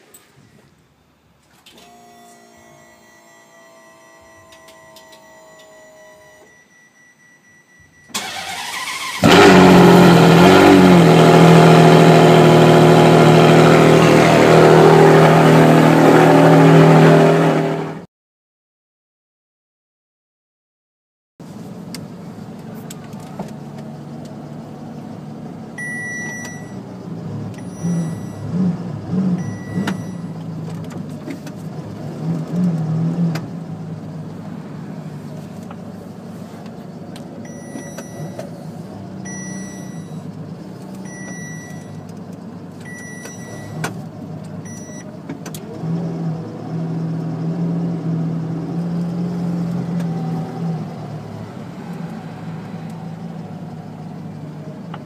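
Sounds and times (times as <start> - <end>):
car engine idling and revving: 1.8 - 18.0, 21.4 - 55.0.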